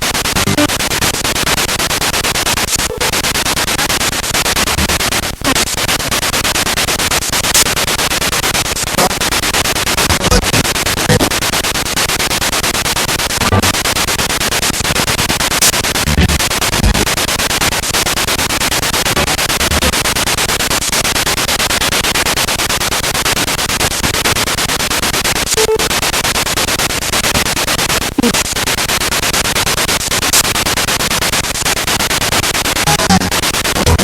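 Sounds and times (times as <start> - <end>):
radio static sweeping stations: 0.2 - 17.8, 18.8 - 21.0, 25.2 - 34.0.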